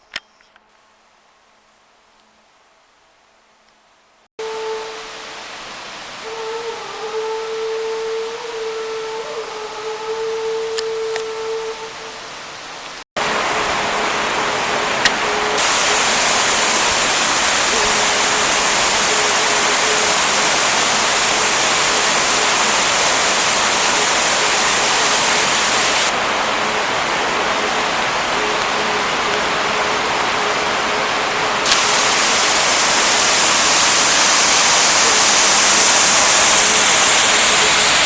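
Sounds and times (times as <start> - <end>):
waterfall rushing water: 4.4 - 38.0.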